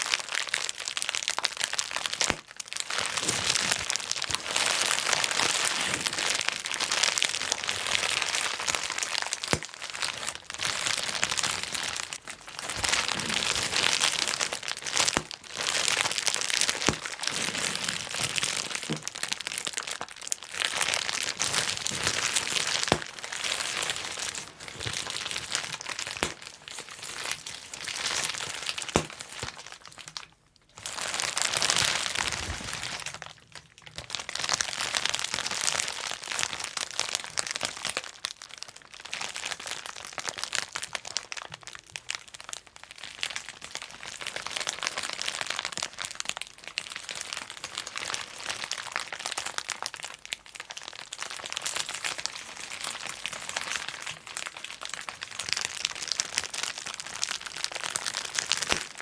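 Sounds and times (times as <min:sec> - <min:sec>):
bubble wrap popping: 0:00.0 - 0:59.0.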